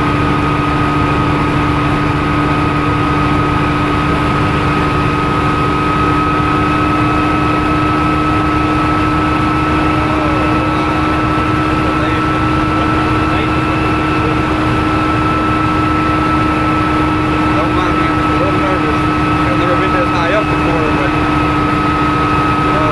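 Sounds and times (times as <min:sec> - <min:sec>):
helicopter engine and rotor: 0:00.0 - 0:22.9.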